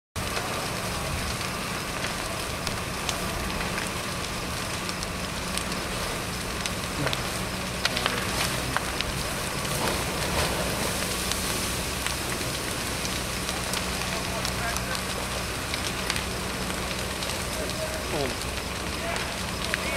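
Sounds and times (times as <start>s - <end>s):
fire crackling and popping: 0.2s - 19.9s
fire rushing: 0.2s - 19.9s.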